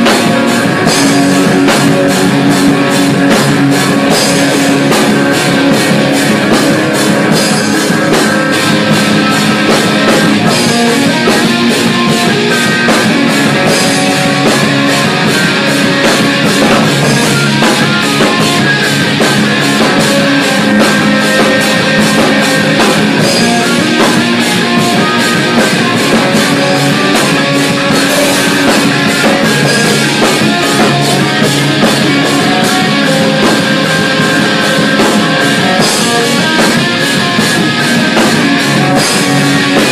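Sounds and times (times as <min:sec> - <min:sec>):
cymbals struck rapidly: 0:00.0 - 0:39.9
rock band playing: 0:00.0 - 0:39.9.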